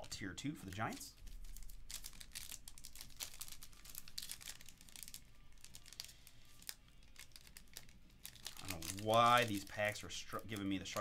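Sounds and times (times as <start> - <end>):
foil wrapper crinkling and tearing: 0.1 - 11.0.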